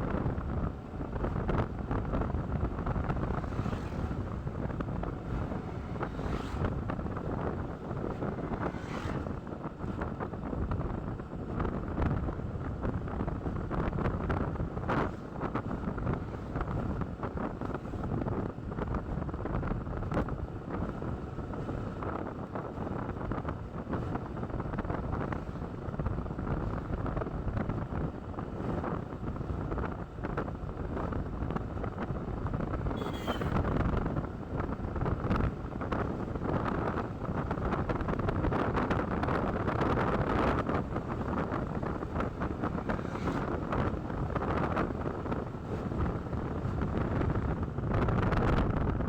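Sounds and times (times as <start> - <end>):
motorcycle ride noise: 0.0 - 49.0
wind buffeting microphone: 0.0 - 49.0.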